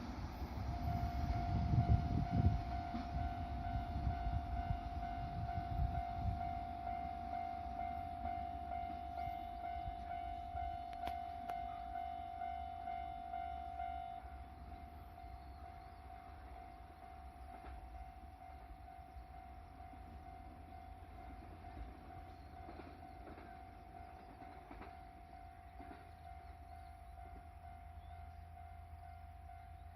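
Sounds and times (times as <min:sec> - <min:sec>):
level crossing warning bell: 0:00.7 - 0:29.9.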